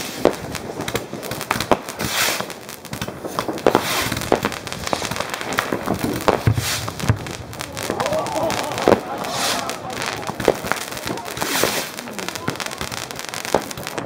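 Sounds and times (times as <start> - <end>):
fireworks bangs and crackles: 0.0 - 14.0
fireworks hissing: 0.0 - 14.0.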